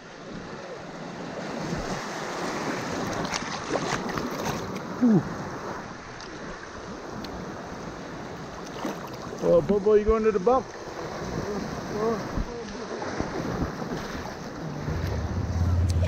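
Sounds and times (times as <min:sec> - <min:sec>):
river water rushing and splashing: 0:00.0 - 0:16.0.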